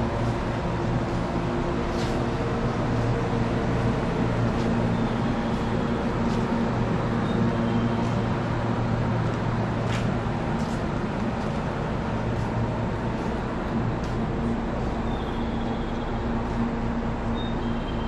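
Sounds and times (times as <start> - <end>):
train equipment humming: 0.0 - 18.0.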